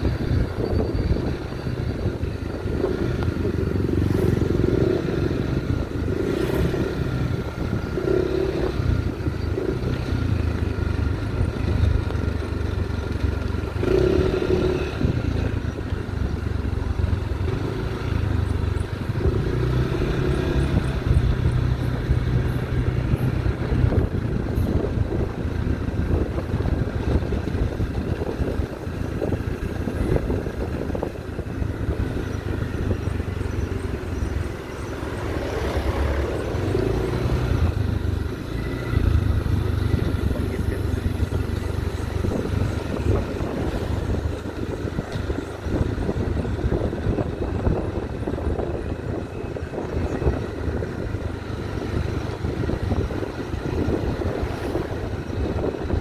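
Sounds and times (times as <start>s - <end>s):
motorcycle engine running: 0.0s - 56.0s
road and wind noise: 0.0s - 56.0s.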